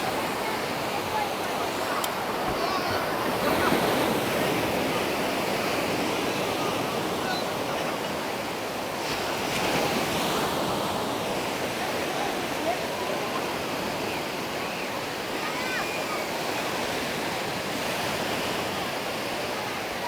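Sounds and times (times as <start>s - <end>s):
sea waves on beach: 0.0s - 20.0s.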